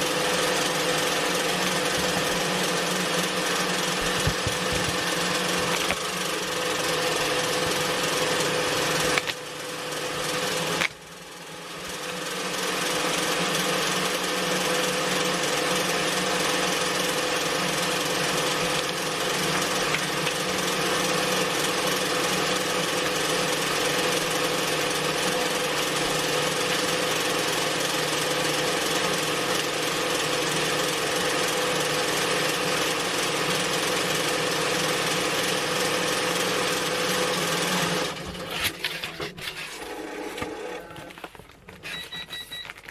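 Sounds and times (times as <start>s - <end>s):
embroidery machine stitching: 0.0s - 42.6s.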